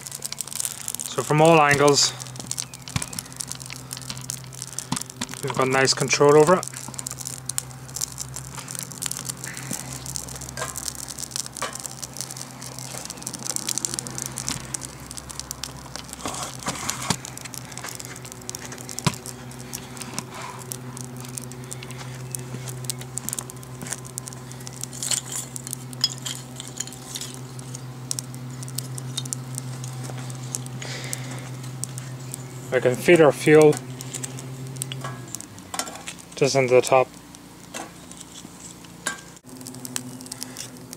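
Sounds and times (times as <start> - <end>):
fire crackling: 0.0 - 40.9
steady low hum: 0.0 - 40.9.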